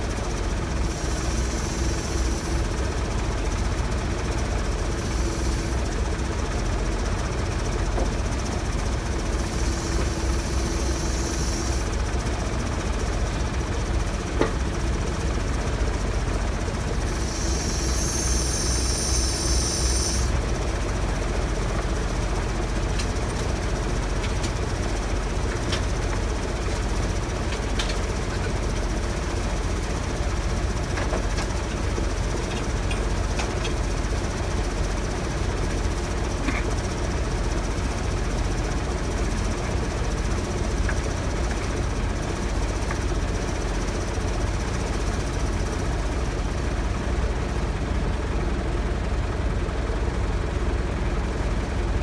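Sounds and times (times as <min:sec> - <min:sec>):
heavy engine running steadily: 0:00.0 - 0:52.0.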